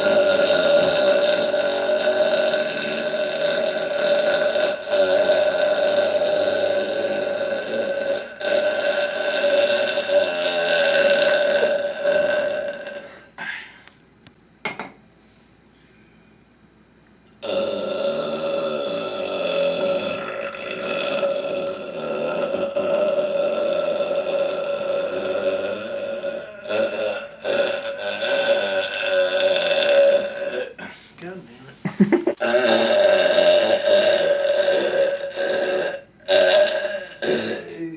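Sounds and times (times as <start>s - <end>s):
man burping: 0.0s - 13.7s, 17.4s - 31.0s, 32.0s - 37.9s.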